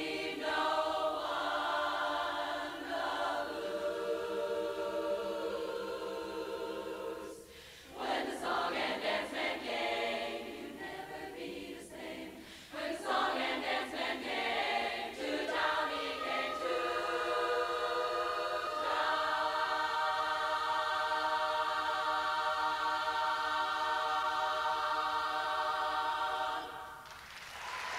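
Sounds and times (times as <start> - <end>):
women's chorus singing a cappella: 0.0 - 27.0.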